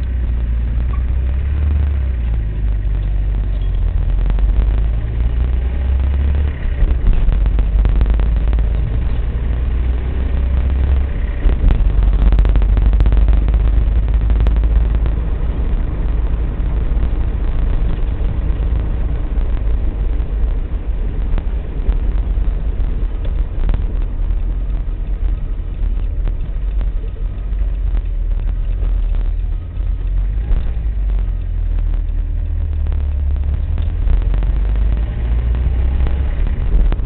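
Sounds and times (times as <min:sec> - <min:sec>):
car driving rumble: 0:00.0 - 0:37.0.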